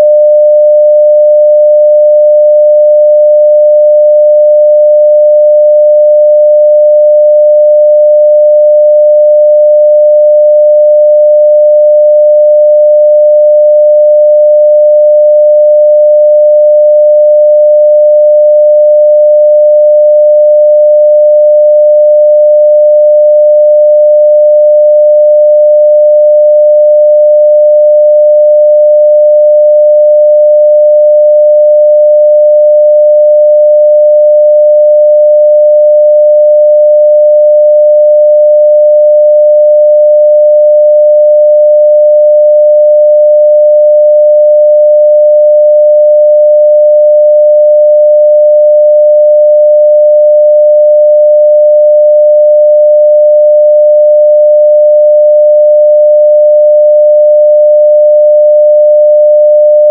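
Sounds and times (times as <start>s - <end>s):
sine-wave test tone: 0.0s - 59.9s.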